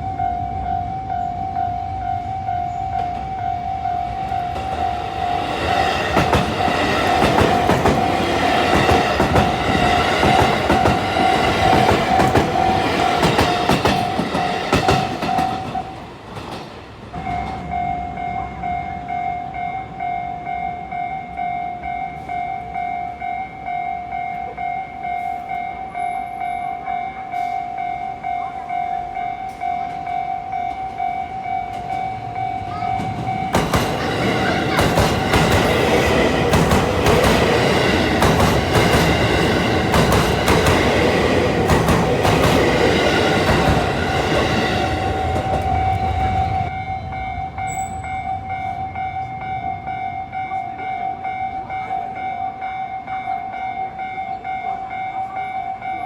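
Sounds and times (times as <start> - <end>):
level-crossing warning bell: 0.0 - 56.0
train running over crossing: 0.0 - 56.0.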